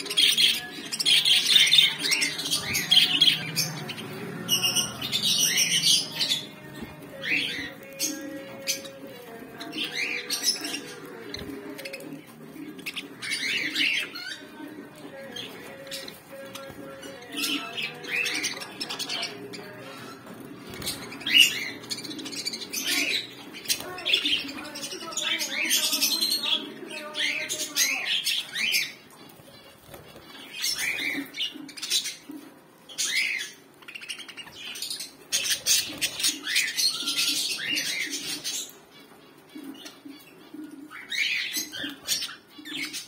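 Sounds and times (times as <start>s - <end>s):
birds squawking and chirping: 0.0s - 43.0s.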